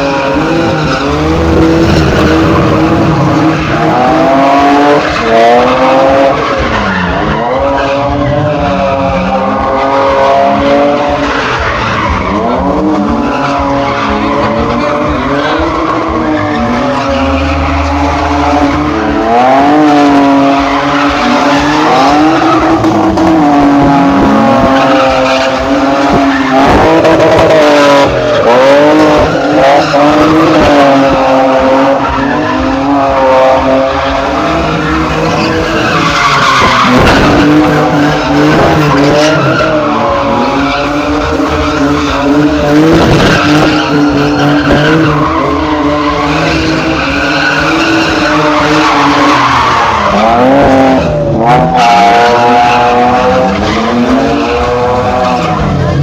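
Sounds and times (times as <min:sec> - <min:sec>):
car engine revving: 0:00.0 - 0:56.0
tyres skidding: 0:00.0 - 0:56.0.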